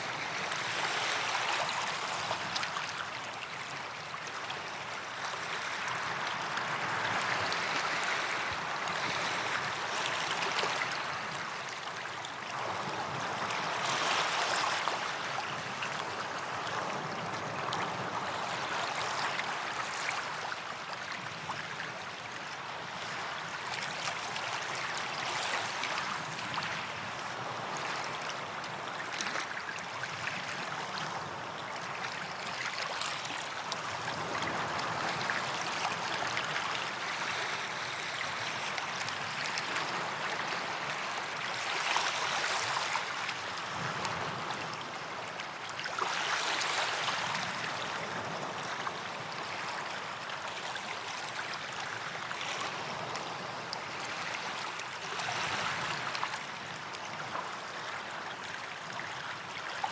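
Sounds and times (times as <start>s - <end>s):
waves washing onto a beach: 0.0s - 59.9s.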